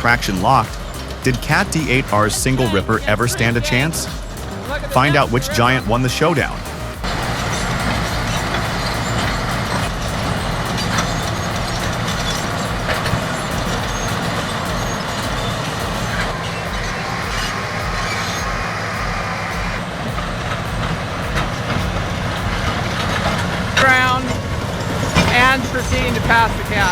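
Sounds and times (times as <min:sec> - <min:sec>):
bulldozer diesel engines droning: 0:00.0 - 0:26.9.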